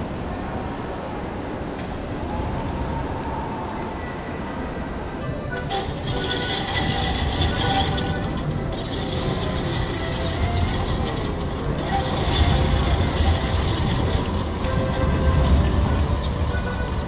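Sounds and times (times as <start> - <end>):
general street noise: 0.0 - 17.0
tram rumbling past: 1.7 - 17.0.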